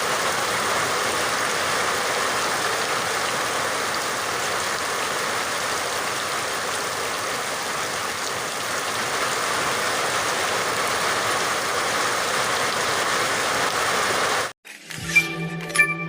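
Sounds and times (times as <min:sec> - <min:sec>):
steady rainfall hiss: 0:00.0 - 0:14.6.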